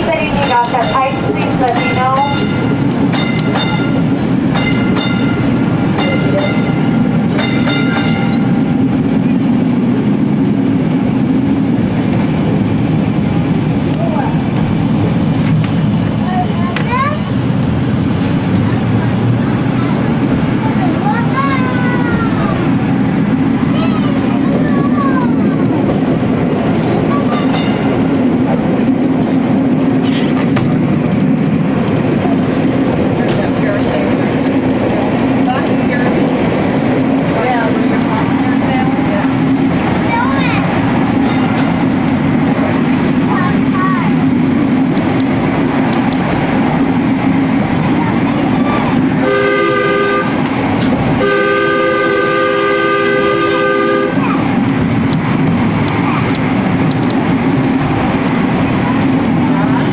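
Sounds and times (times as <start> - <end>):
streetcar rumbling on track: 0.0 - 59.9
wheels clicking over rail joints: 0.0 - 59.9.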